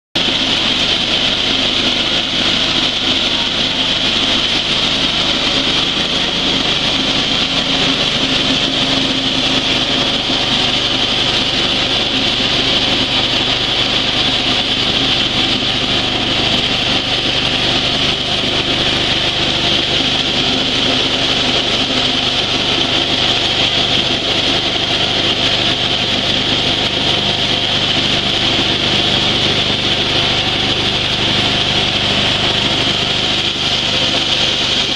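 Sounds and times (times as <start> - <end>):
coffee huller mechanical rush: 0.2 - 34.9
small engine droning: 0.2 - 34.9.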